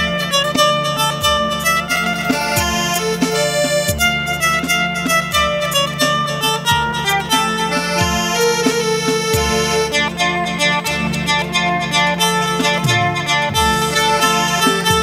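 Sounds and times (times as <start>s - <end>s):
amplified mandolin melody: 0.0s - 15.0s
low thumping beat: 0.0s - 15.0s.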